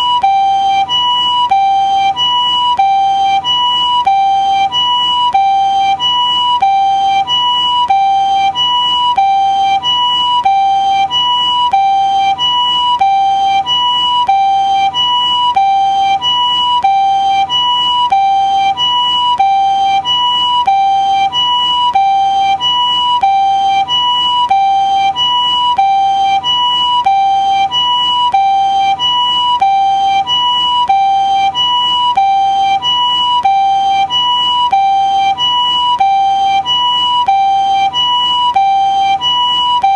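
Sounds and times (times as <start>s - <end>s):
two-tone ambulance siren: 0.0s - 39.9s.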